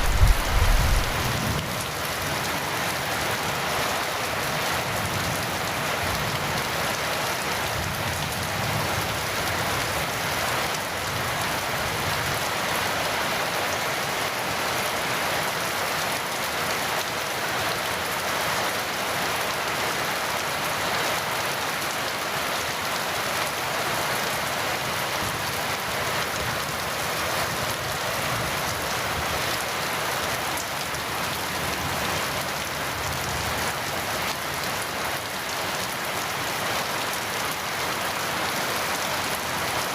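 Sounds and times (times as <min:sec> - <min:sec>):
heavy rain on surfaces: 0:00.0 - 0:39.9.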